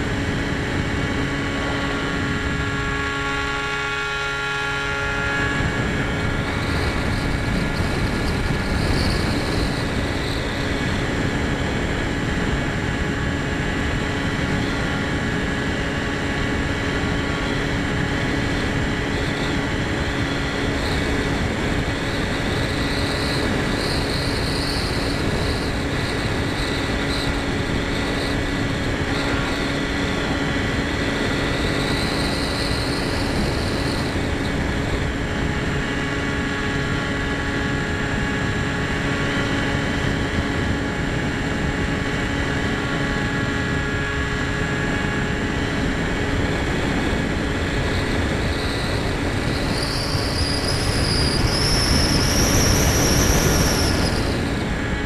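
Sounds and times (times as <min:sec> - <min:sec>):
model plane motor whine: 0:00.0 - 0:55.0
wind rush on microphone: 0:00.0 - 0:55.0.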